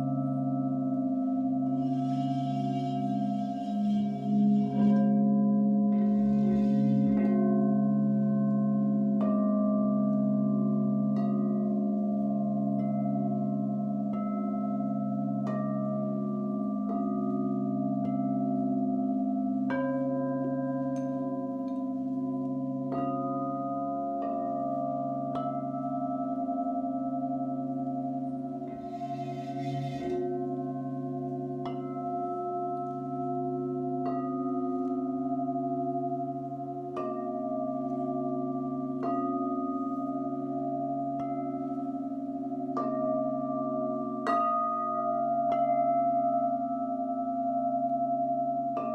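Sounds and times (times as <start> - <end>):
singing bowls ringing: 0.0 - 48.9.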